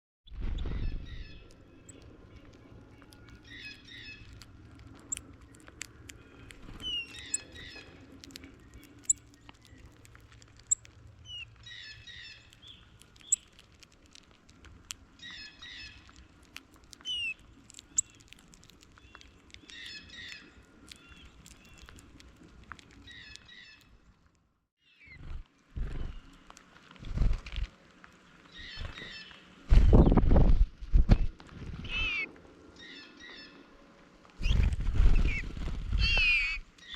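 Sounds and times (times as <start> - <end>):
birds chipping: 0.3 - 24.1, 24.8 - 30.3, 31.2 - 36.9.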